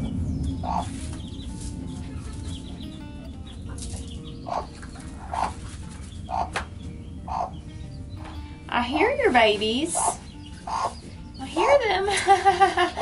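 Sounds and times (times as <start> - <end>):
chickens clucking: 0.0 - 8.5, 9.8 - 12.1
steady low background: 0.0 - 13.0.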